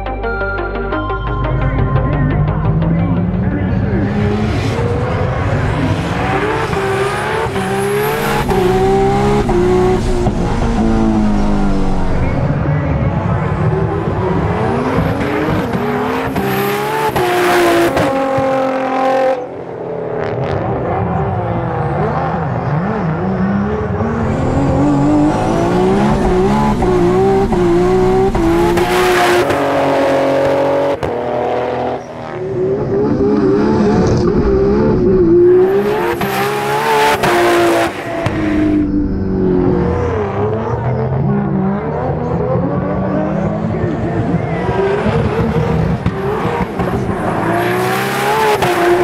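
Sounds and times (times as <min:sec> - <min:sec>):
car engine accelerating hard: 0:01.6 - 0:49.0.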